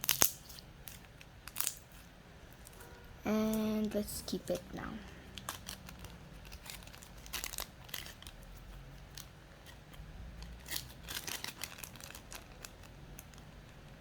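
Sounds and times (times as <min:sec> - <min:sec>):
plastic bag crinkling: 0:00.0 - 0:02.9, 0:03.5 - 0:13.5.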